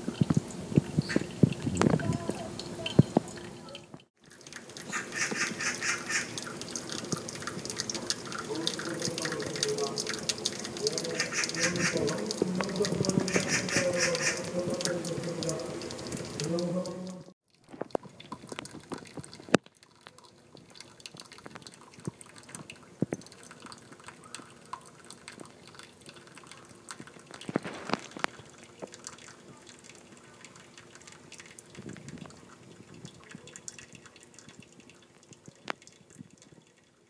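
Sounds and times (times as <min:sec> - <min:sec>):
faint wash of water: 0:00.0 - 0:36.8
raindrops ticking and tapping: 0:00.0 - 0:37.0.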